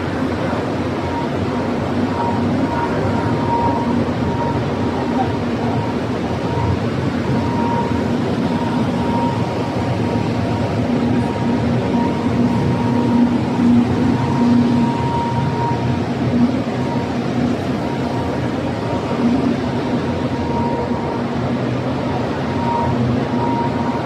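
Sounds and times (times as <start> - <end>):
factory machinery running: 0.0 - 24.0
faint machine whine: 0.0 - 24.0
low machine hum: 0.0 - 24.0.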